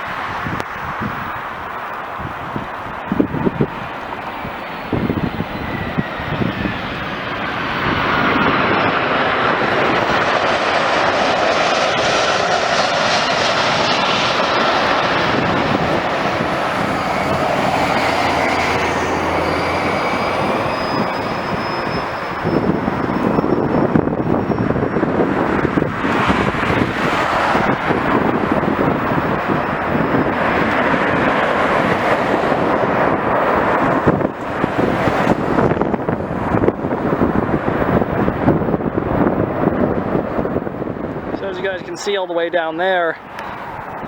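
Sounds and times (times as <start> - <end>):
airliner engines roaring: 0.0 - 44.0.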